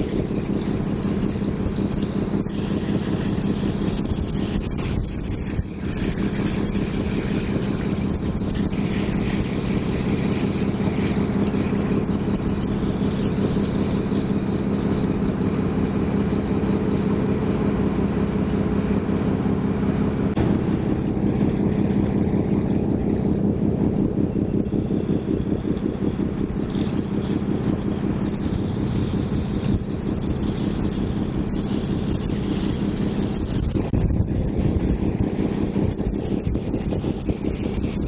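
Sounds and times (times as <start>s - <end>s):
ship engine droning: 0.0s - 38.0s.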